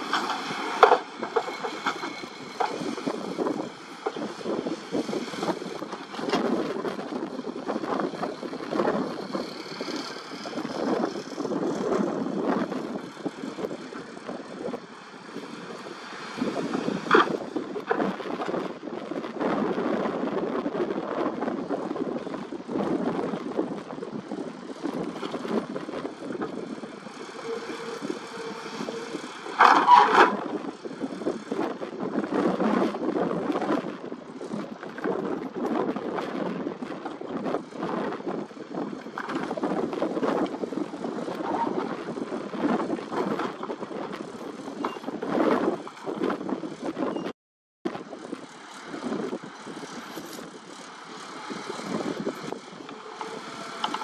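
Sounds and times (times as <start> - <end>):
excavator engine running under load: 0.0 - 47.2, 47.9 - 54.0.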